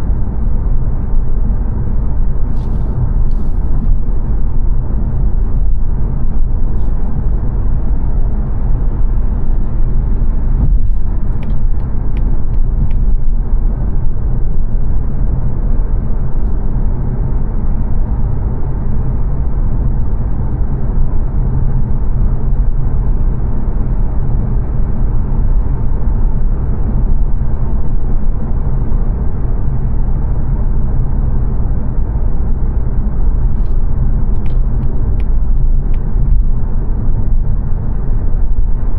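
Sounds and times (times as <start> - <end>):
road and engine noise in car: 0.0 - 38.9.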